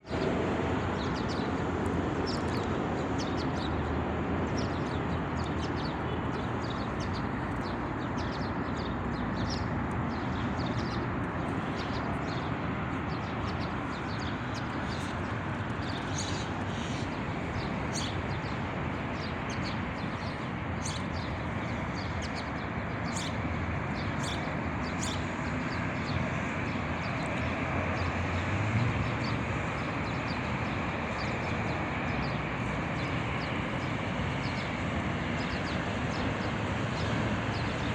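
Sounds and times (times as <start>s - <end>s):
small birds chirping: 1.0s - 28.5s, 29.1s - 37.9s.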